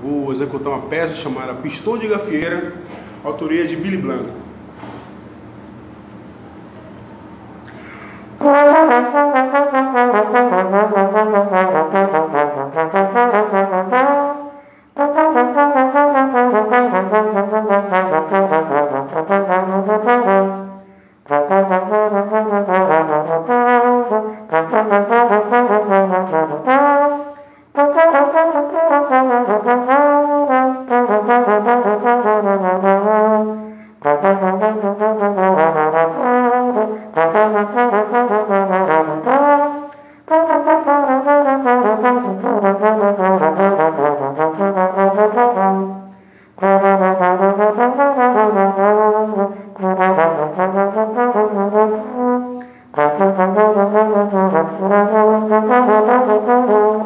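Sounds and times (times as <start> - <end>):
solo brass melody: 8.4 - 57.0.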